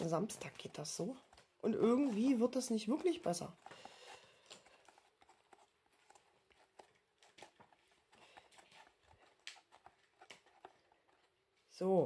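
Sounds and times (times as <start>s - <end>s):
fingers tapping paper: 0.0s - 11.7s
paper rustling: 0.0s - 11.7s.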